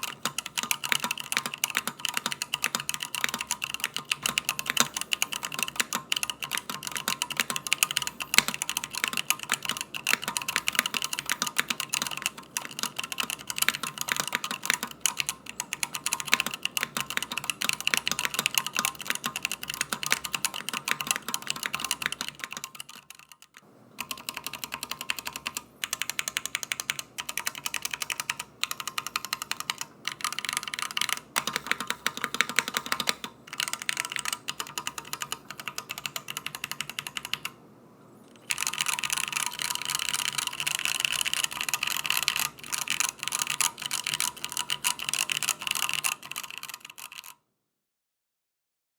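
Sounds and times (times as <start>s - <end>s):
mechanical keyboard typing: 0.0s - 37.6s, 38.3s - 47.4s.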